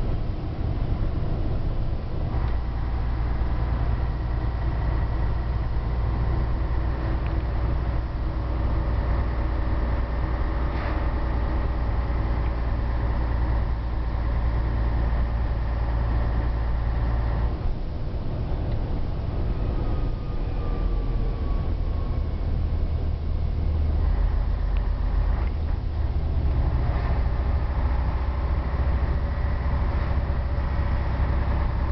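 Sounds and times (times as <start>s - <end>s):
diesel truck engine droning: 0.0s - 31.9s.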